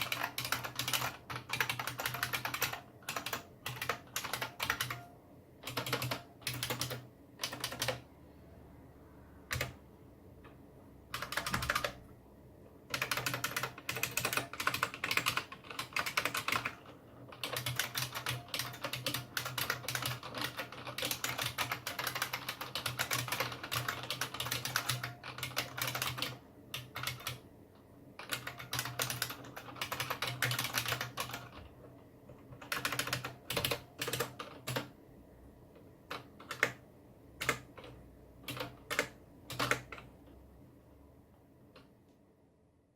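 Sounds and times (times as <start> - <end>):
clicky keyboard typing: 0.0 - 8.1, 9.5 - 9.8, 10.4 - 12.1, 12.9 - 27.4, 28.2 - 35.0, 35.8 - 36.8, 37.4 - 40.3.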